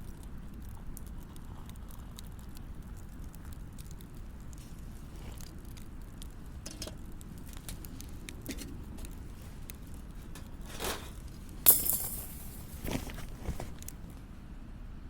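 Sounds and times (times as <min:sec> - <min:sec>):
campfire crackling: 0:00.0 - 0:14.4
low steady rumble: 0:00.0 - 0:15.0.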